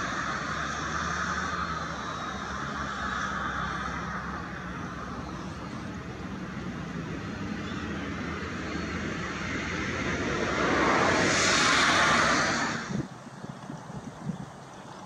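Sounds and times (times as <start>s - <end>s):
vehicle passing: 0.0s - 13.1s
outdoor engine hum: 0.0s - 15.0s.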